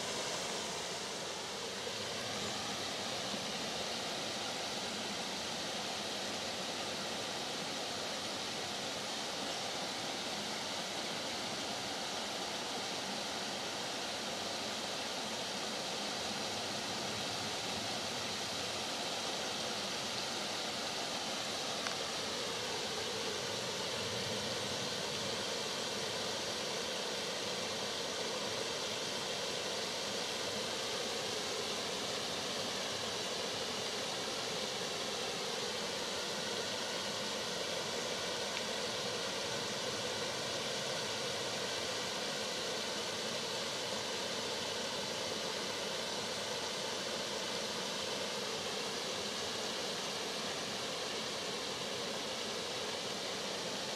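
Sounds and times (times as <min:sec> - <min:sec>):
forest brook flowing: 0:00.0 - 0:53.9.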